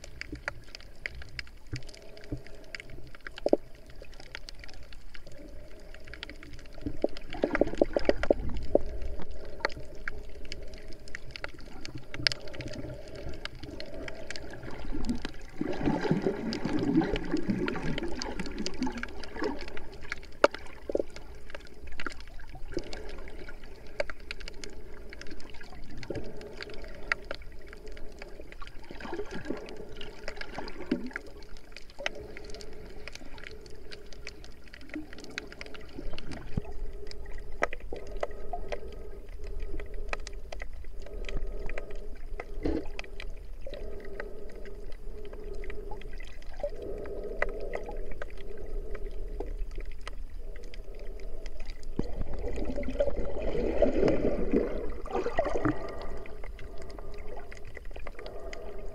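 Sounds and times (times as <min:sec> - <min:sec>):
low murky rumble: 0:00.0 - 0:58.9
muffled underwater gurgling: 0:00.0 - 0:58.9.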